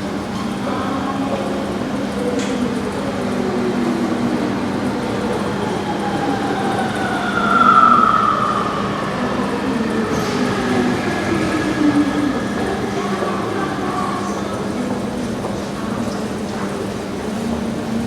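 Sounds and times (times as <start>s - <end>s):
metro train motors whining: 0.0s - 18.0s.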